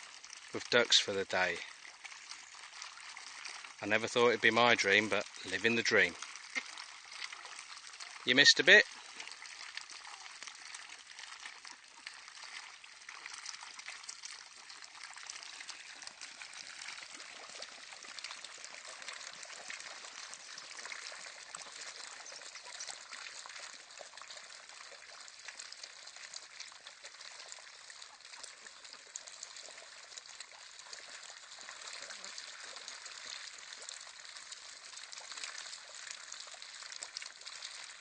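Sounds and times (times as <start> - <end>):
ducks dabbling in shallow water: 0.0 - 38.0.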